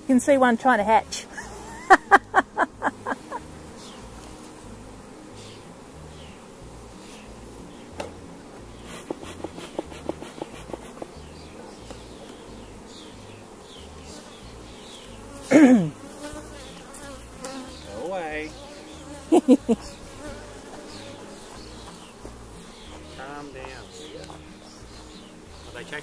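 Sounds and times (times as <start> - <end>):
honeybees buzzing: 0.0 - 26.0
bee flying past microphone: 1.2 - 26.0.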